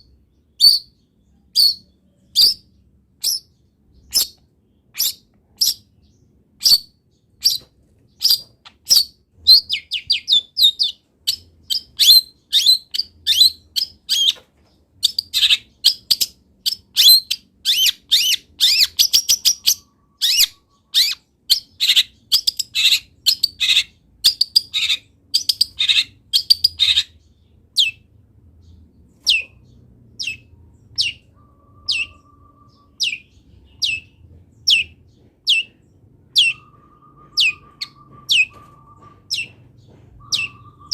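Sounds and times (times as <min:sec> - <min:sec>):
bird singing high chirps and trills: 0:00.0 - 0:40.9.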